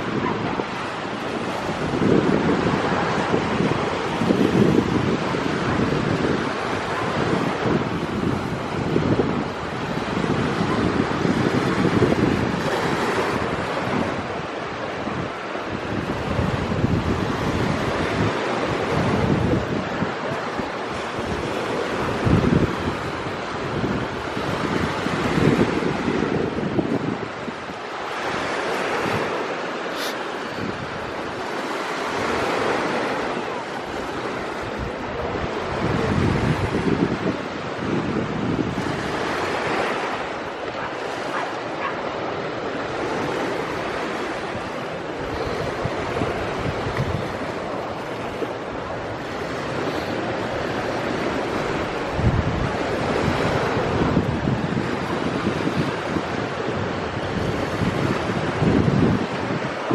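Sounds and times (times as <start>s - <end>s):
waves washing in: 0.0s - 59.9s
wind buffeting microphone: 0.0s - 59.9s.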